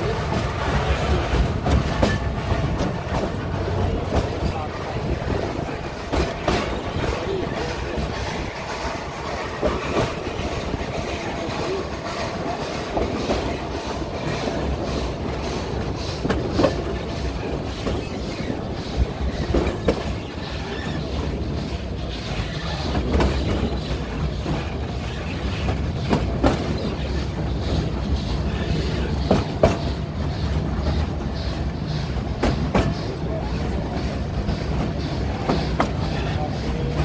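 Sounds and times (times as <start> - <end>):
steady train rumble: 0.0 - 37.0
train wheels clattering over rail joints: 0.0 - 37.0.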